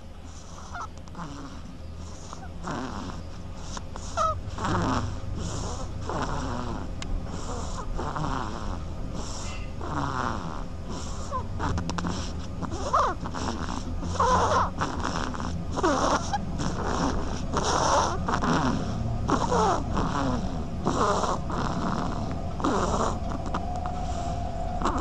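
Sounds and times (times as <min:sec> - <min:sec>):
duckling snoring: 0:00.0 - 0:25.0.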